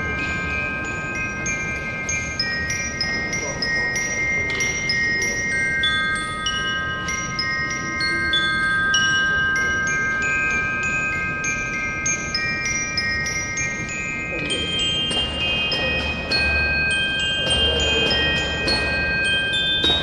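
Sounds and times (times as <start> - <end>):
bell lyres playing slow melody: 0.0 - 20.0.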